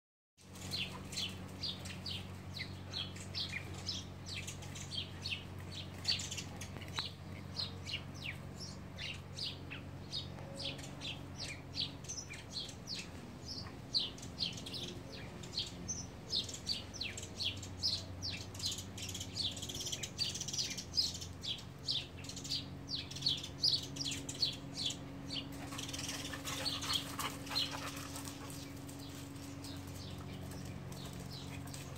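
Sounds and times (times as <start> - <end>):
small birds chirping: 0.4 - 31.9
steady low hum: 0.4 - 31.9.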